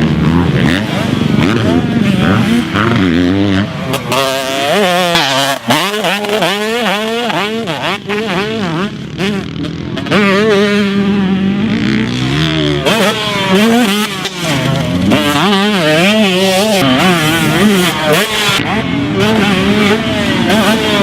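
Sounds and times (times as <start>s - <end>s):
two-stroke engine revving: 0.0s - 21.0s.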